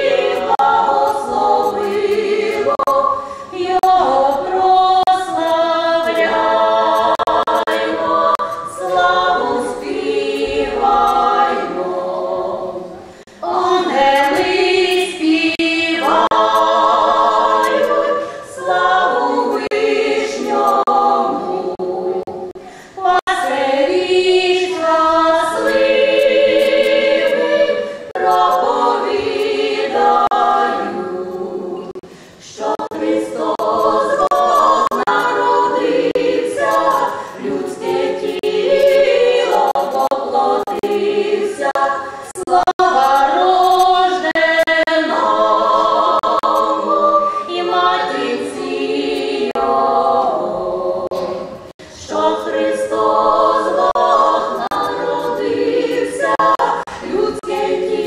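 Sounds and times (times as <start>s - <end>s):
women singing a cappella harmony: 0.0s - 58.0s.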